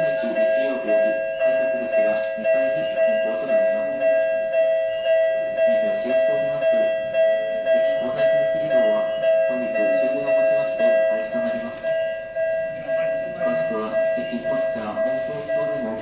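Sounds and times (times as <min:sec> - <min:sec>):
level crossing alarm bell: 0:00.0 - 0:16.0.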